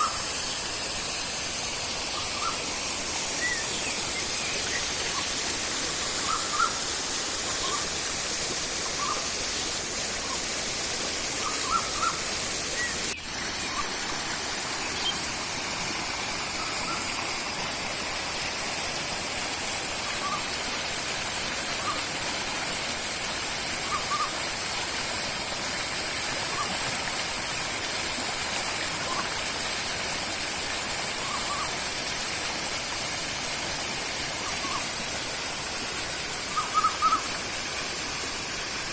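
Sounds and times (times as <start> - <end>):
high hiss: 0.0 - 38.9
river and waterfall rushing: 0.0 - 38.9.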